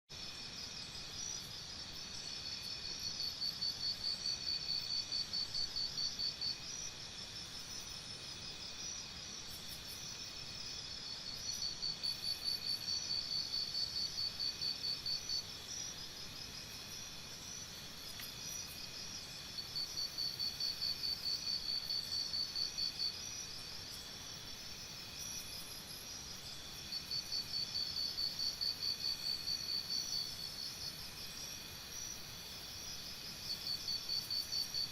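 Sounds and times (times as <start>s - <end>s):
background of insects: 0.1s - 34.9s
high pulsing insect chirp: 0.1s - 34.9s.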